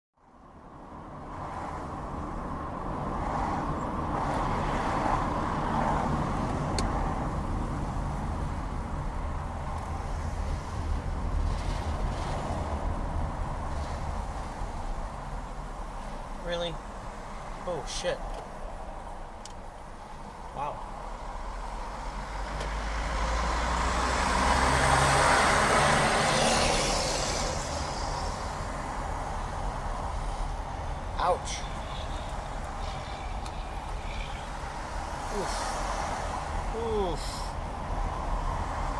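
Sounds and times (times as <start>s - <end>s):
road and traffic noise: 0.2s - 38.9s
car engine rumble: 0.3s - 38.9s.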